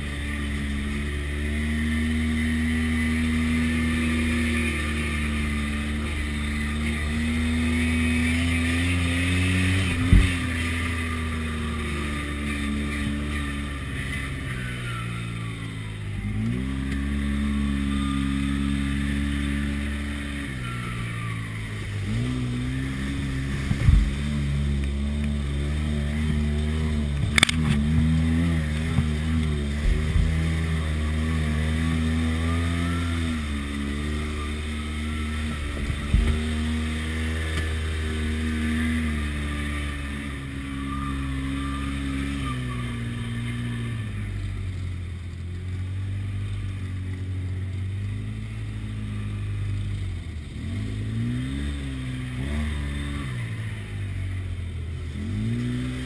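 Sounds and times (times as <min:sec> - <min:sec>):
utility vehicle engine running: 0:00.0 - 0:56.0
water splashing against vehicle: 0:00.0 - 0:56.0.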